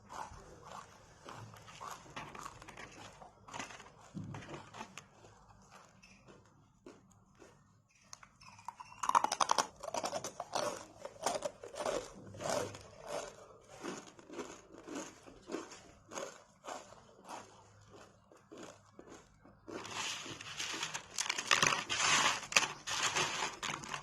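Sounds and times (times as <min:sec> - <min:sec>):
crunchy snack chewing: 0:00.0 - 0:24.0.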